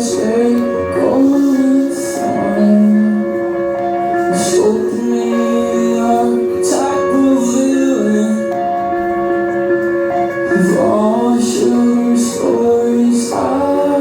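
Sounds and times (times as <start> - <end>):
live band playing: 0.0 - 14.0
person singing: 0.0 - 14.0.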